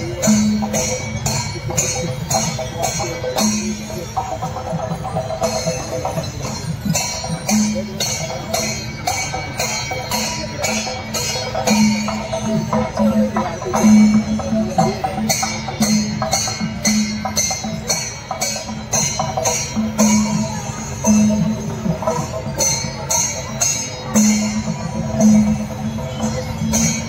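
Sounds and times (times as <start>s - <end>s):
drums: 0.0s - 27.0s
metal cymbals clashing: 0.0s - 27.0s.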